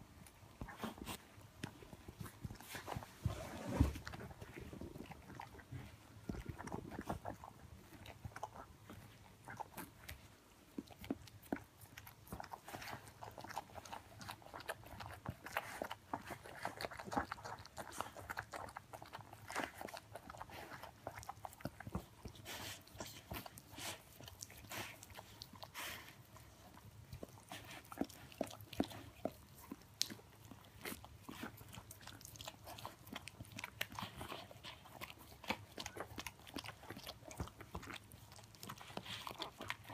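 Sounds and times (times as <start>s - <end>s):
dog licking puppy: 0.0s - 39.9s.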